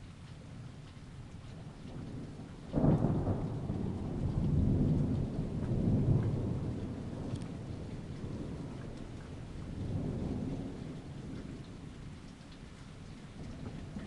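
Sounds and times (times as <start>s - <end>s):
steady rain: 0.0s - 14.0s
thunder rumbling: 1.6s - 14.0s.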